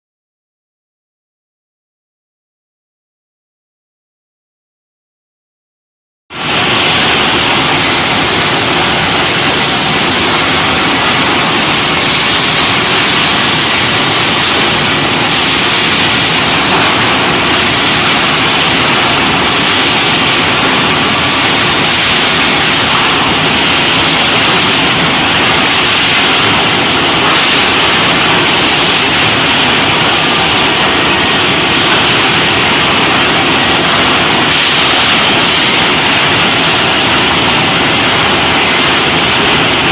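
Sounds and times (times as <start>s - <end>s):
steady hissing machinery noise: 6.3s - 39.9s.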